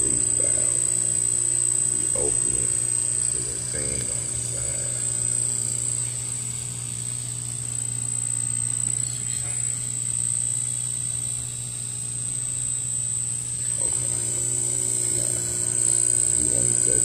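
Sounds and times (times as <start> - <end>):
electric pump hum: 0.0 - 17.0.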